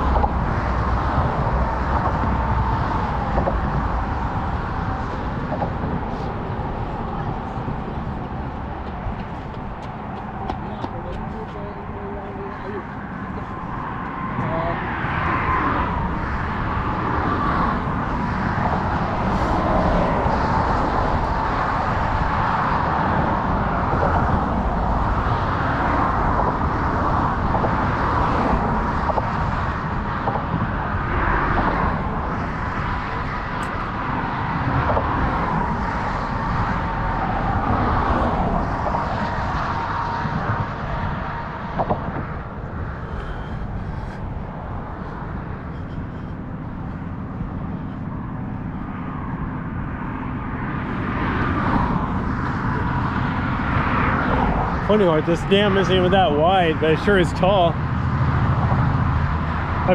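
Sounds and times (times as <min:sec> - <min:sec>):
cars passing on road: 0:00.0 - 0:59.9
steady rushing noise: 0:00.0 - 0:59.9.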